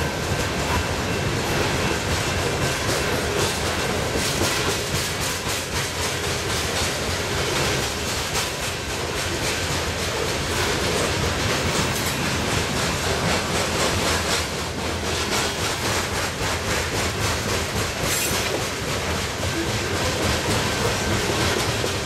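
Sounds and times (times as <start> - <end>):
freight train rumbling past: 0.0 - 22.0
wheels clicking over rail joints: 0.0 - 22.0.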